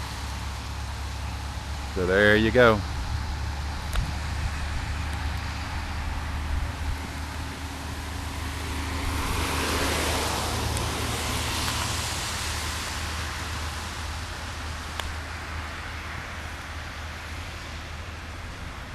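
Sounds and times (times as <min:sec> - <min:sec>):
low engine hum: 0:00.0 - 0:18.9
road traffic: 0:00.0 - 0:18.9
vehicle tyre hiss passing: 0:00.0 - 0:18.9.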